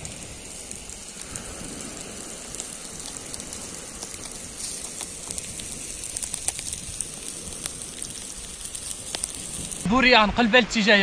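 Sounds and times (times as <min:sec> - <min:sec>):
fish fat sizzling on grill: 0:00.0 - 0:09.9
fire crackling and popping: 0:00.0 - 0:10.4.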